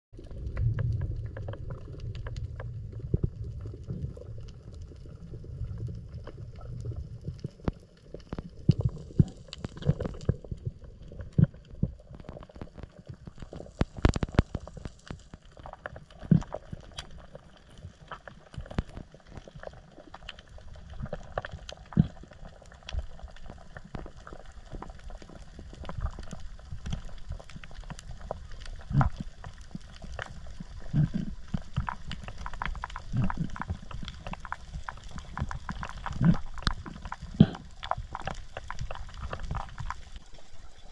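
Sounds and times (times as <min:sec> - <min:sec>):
low rumbling underwater noise: 0:00.1 - 0:40.9.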